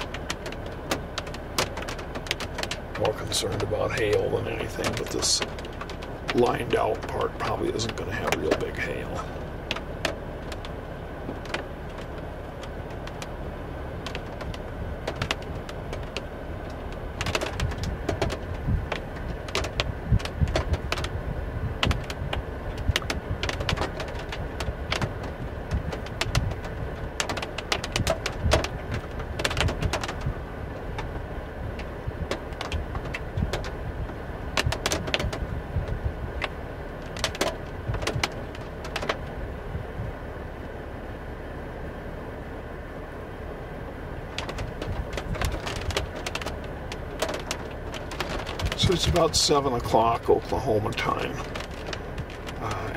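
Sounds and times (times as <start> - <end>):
raindrops tapping on car: 0.0 - 41.6, 43.4 - 52.9
storm wind rumbling: 0.0 - 41.9, 43.8 - 52.9.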